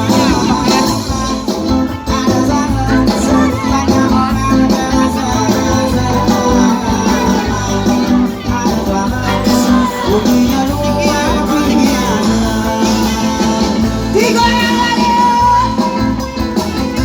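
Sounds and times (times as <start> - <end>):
live band music through pa: 0.0 - 17.0
person singing: 0.0 - 17.0.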